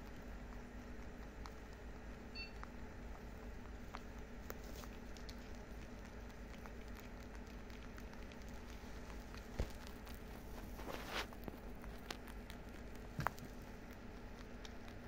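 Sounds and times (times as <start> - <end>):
low steady hum: 0.0 - 15.0
rabbits chewing hay: 0.0 - 15.0.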